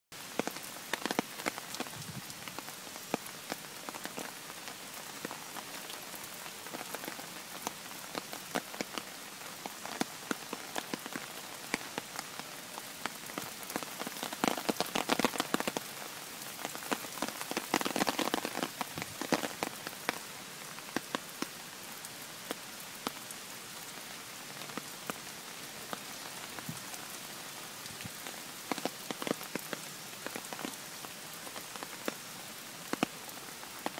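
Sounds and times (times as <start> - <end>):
heavy rain on gravel and puddles: 0.1 - 33.9
raindrops ticking: 0.2 - 23.2, 28.1 - 32.2, 32.8 - 33.9.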